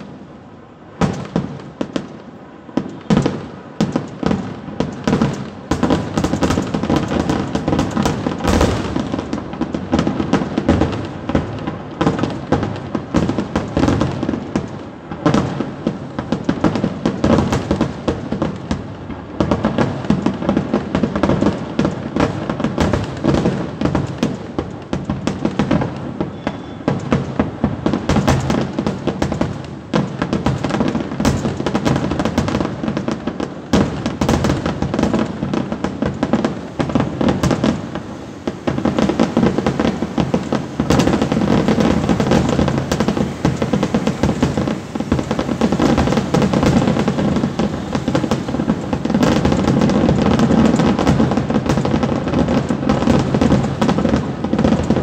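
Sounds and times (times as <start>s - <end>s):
firecrackers barrage: 0.0s - 55.0s.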